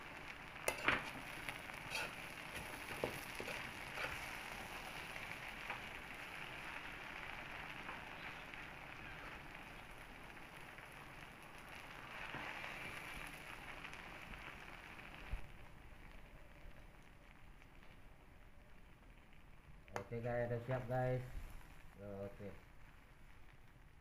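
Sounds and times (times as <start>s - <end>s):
noodles sizzling in a wok: 0.0s - 24.0s.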